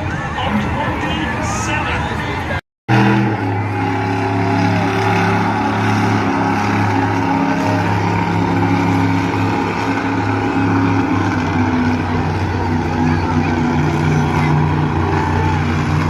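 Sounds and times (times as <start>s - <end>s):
truck engine running loud: 0.0s - 16.0s.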